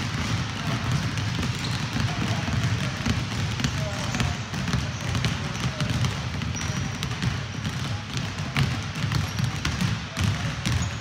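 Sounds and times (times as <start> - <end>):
basketballs bouncing on wooden floor: 0.0 - 11.0.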